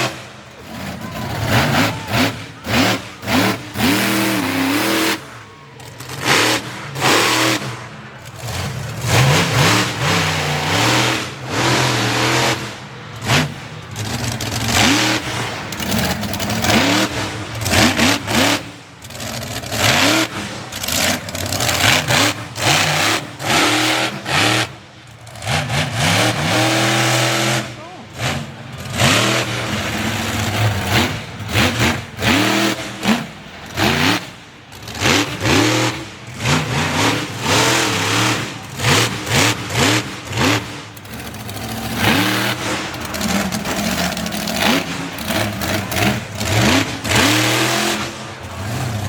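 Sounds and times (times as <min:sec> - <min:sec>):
truck engine revving hard: 0:00.0 - 0:49.0.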